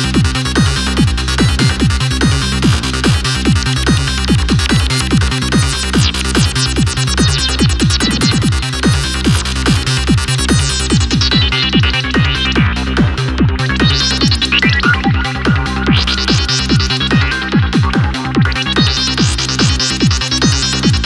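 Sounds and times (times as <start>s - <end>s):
kick drum: 0.0s - 21.0s
rolling bassline: 0.0s - 21.0s
synth lead: 0.0s - 21.0s
trance music loop: 0.0s - 21.0s.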